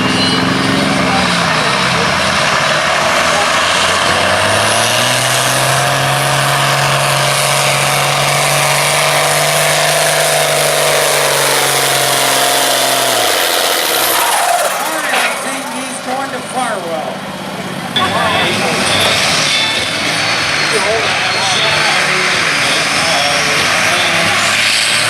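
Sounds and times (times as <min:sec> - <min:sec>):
tractor engine running under load: 0:00.0 - 0:23.9.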